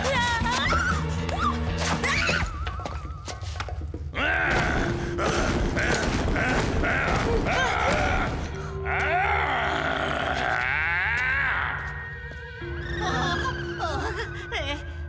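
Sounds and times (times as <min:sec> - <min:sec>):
dramatic music: 0:00.0 - 0:15.0.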